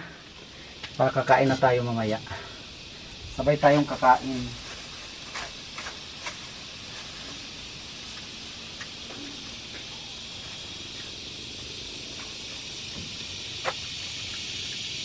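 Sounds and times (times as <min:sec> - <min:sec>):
wood fire crackling and hissing: 0:00.0 - 0:15.0.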